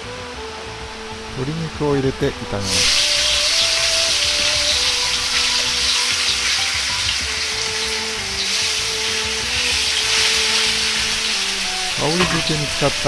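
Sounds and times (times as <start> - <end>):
chicken sizzling in hot oil: 1.2 - 13.0.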